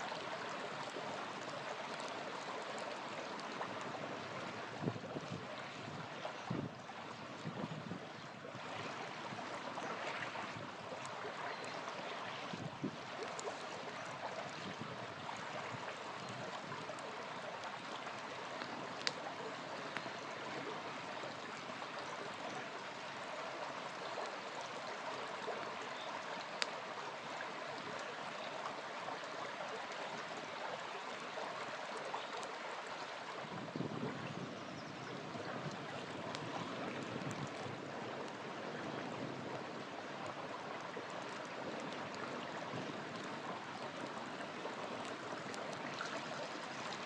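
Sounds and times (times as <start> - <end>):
campfire crackling and popping: 0.0 - 30.4, 35.4 - 47.0
small river flowing: 0.0 - 47.0.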